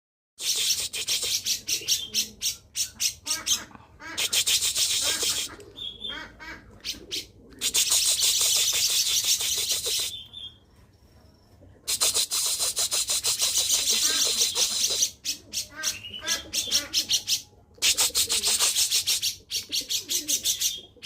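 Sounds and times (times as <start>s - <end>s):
songbird singing chattering song: 0.4s - 3.5s, 4.2s - 6.2s, 6.8s - 11.1s, 11.8s - 21.0s.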